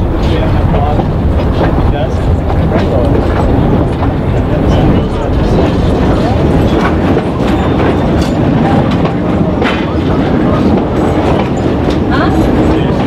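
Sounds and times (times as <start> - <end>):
clicks and clacks: 0.0 - 13.0
train wheels rumbling on rails: 0.0 - 13.0.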